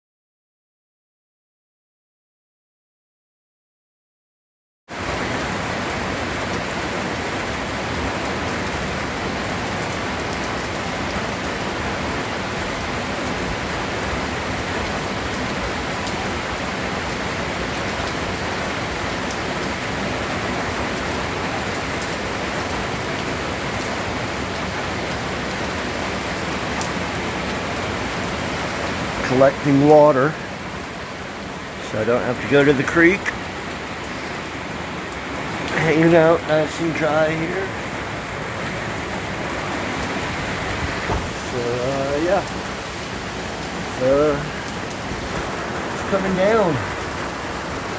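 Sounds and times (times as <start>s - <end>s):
heavy rain falling: 4.9s - 47.9s.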